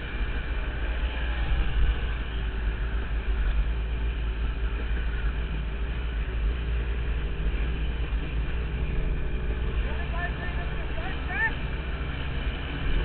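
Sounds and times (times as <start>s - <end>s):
constant low rumble: 0.0s - 13.0s
dirt bike engine running: 0.0s - 13.0s.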